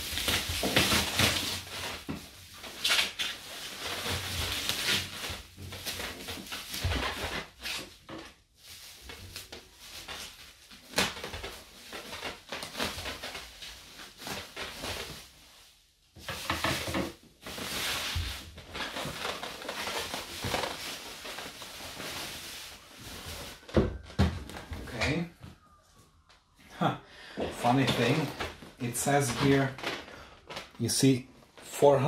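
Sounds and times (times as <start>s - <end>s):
bubble wrap rustling and crinkling: 0.0s - 26.6s, 27.6s - 31.8s.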